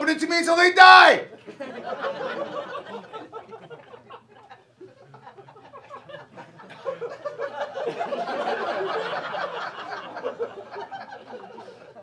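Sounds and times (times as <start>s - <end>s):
audience laughing: 1.3s - 12.0s.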